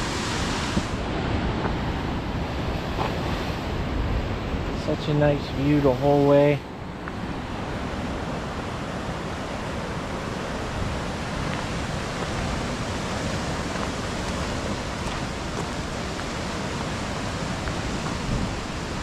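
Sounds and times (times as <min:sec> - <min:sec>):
ocean surf: 0:00.0 - 0:19.0
wind: 0:00.0 - 0:19.0.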